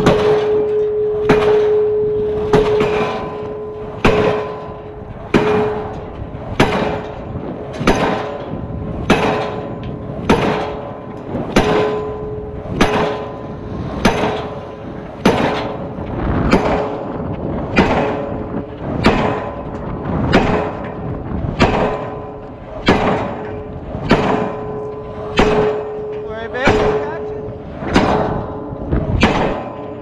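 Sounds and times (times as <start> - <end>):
pile hammer blows: 0.0 - 30.0
steady tone: 0.0 - 30.0.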